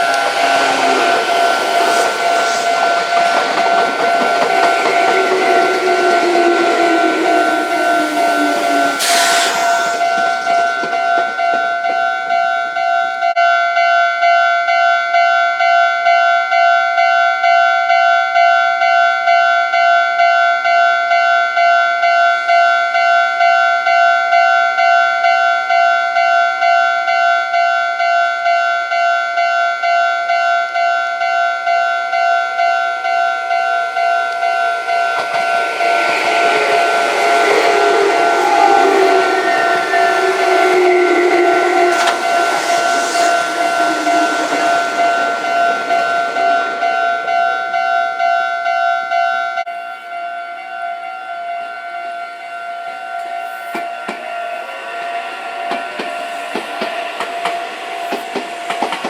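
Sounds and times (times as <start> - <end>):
train passing: 0.0 - 14.9, 17.9 - 59.0
train approaching: 0.0 - 59.0.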